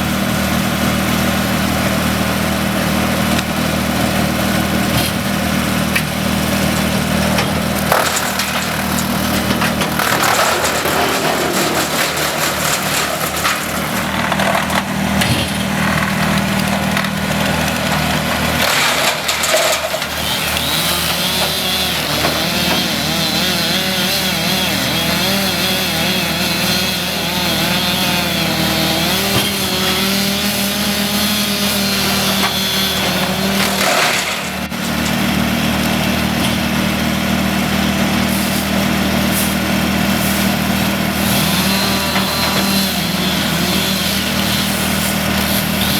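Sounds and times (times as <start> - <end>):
engine drone: 0.0 - 45.9
saw cutting wood: 0.0 - 45.9.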